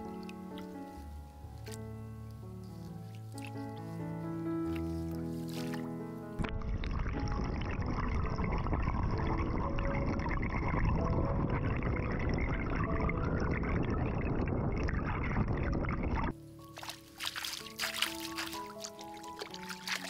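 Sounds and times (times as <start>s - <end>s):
water pouring and splashing: 2.9s - 20.0s.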